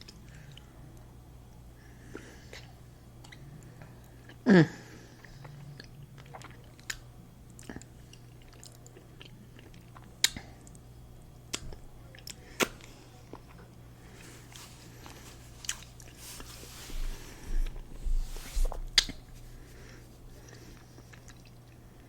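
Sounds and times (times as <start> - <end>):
quiet chewing: 0.0 - 4.4, 5.1 - 22.0.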